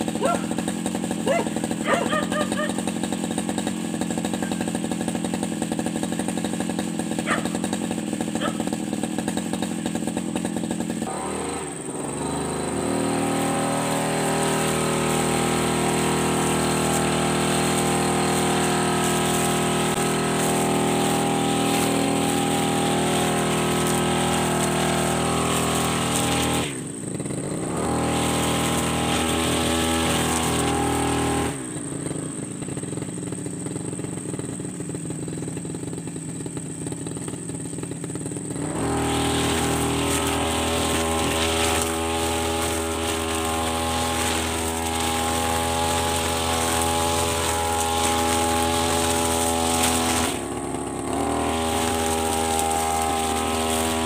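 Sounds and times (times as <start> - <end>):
brush cutter engine cutting grass: 0.0 - 54.0.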